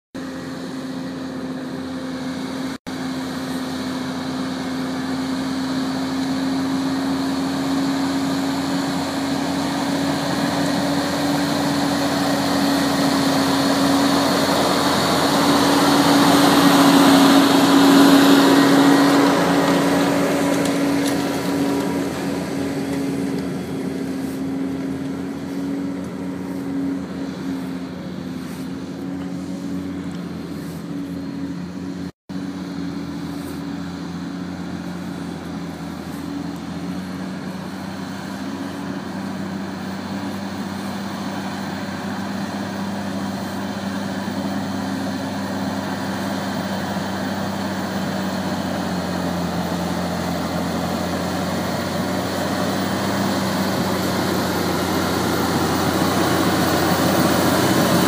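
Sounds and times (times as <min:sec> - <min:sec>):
tractor diesel engine running: 0:00.2 - 0:58.0.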